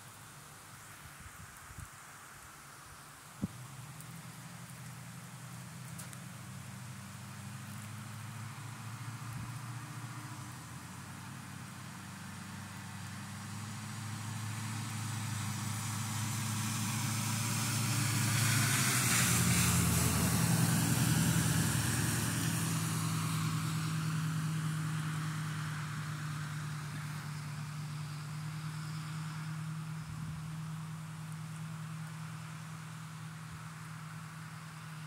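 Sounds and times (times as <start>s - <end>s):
steady rain: 0.0s - 35.0s
tyre hiss on wet road: 0.0s - 35.0s
truck engine hum: 3.5s - 35.0s.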